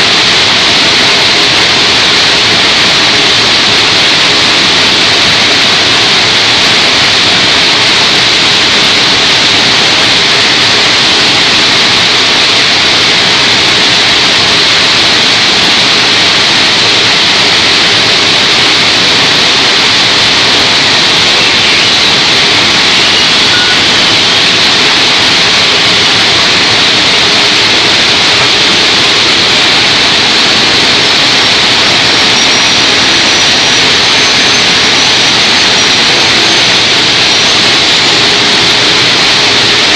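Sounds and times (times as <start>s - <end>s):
faint high whine: 0.0s - 39.9s
scrap-metal baler running: 0.0s - 39.9s.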